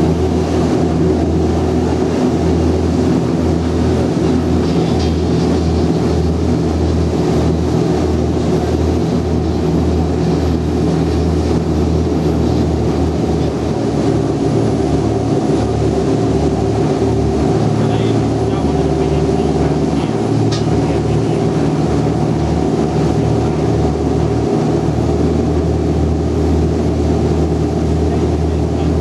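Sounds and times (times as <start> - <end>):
boat engine droning: 0.0 - 29.0
rush of boat wake: 0.0 - 29.0.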